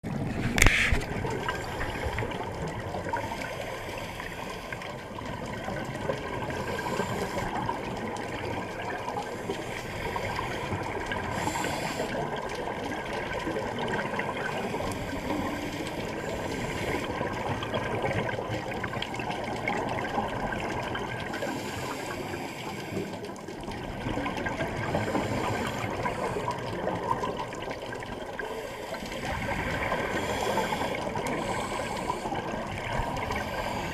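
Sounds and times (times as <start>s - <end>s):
sea water rushing and splashing: 0.0s - 33.9s.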